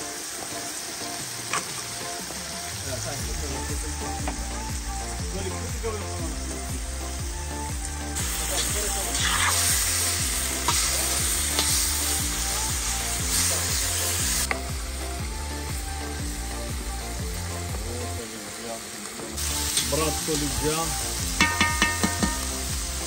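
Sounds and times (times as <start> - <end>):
meat frying in fat: 0.0 - 23.0.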